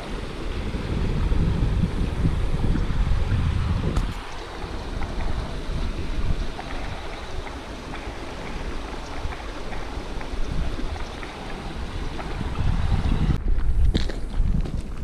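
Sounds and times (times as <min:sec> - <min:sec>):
river water rushing: 0:00.0 - 0:13.4
wind buffeting microphone: 0:00.0 - 0:15.0.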